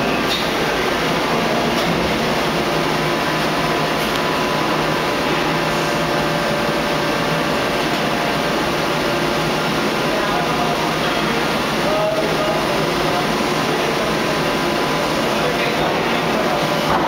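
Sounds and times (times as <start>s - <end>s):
hydraulic press drone and hiss: 0.0s - 17.0s.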